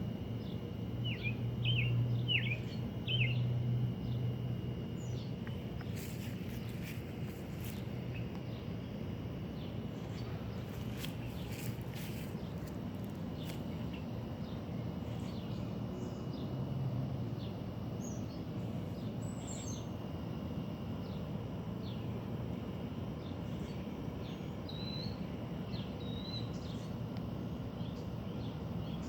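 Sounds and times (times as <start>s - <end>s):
low outdoor rumble: 0.0s - 29.0s
small birds chirping: 0.2s - 16.7s, 17.3s - 20.3s, 23.2s - 29.0s.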